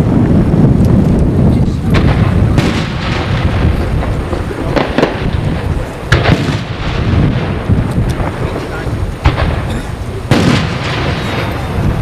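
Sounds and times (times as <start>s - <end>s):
firework shells booming: 0.0s - 12.0s
fireworks crackle: 0.0s - 12.0s
sharp firework bangs: 1.5s - 12.0s.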